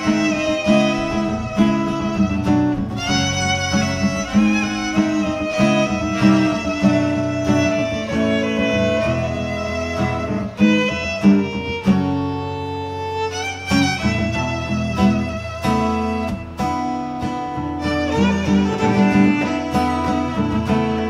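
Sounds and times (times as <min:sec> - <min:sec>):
acoustic guitar: 0:00.0 - 0:21.0
cello: 0:00.0 - 0:21.0
violin melody: 0:00.0 - 0:21.0.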